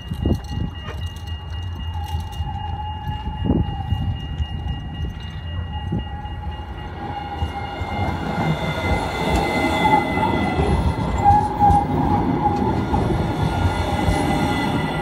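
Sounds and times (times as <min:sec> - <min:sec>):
tram wheels rumbling on rails: 0:00.0 - 0:15.0
tram whining tones: 0:00.0 - 0:15.0.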